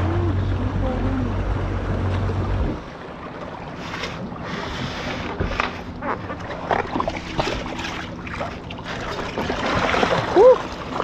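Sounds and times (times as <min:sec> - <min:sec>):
jet ski engine idling: 0:00.0 - 0:09.0
water splashes: 0:00.0 - 0:11.0.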